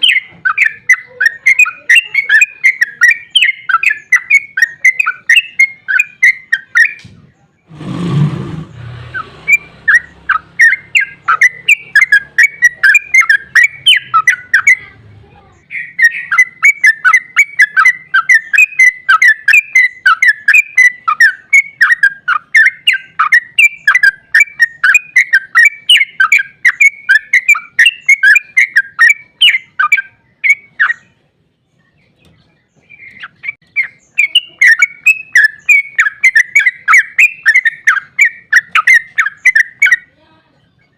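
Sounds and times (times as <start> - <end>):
bird chattering call: 0.0 - 7.0, 7.8 - 15.0, 15.6 - 31.2, 32.8 - 40.2.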